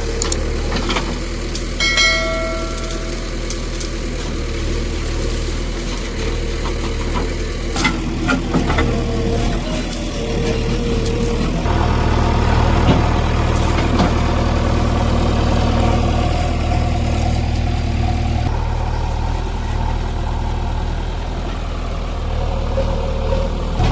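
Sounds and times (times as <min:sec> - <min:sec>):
heavy vehicle engine idling: 0:00.0 - 0:23.9.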